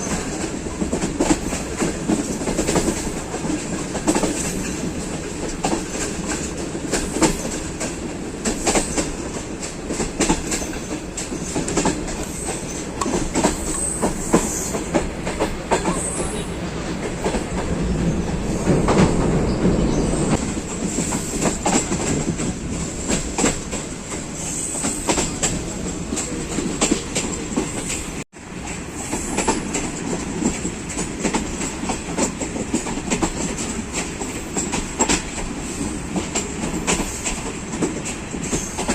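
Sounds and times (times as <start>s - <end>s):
train rumbling on track: 0.0s - 38.9s
wheels clicking over rail joints: 0.0s - 38.9s.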